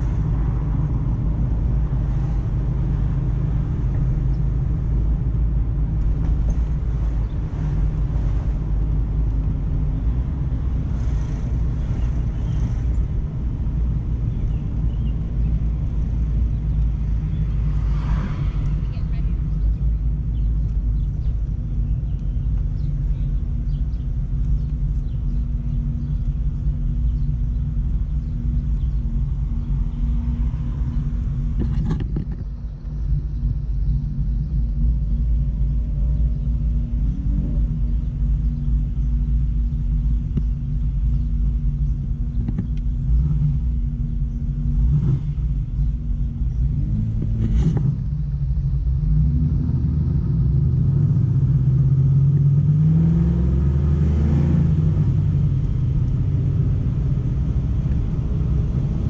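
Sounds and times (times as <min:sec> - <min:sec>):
car engine cruising: 0:00.0 - 0:59.0.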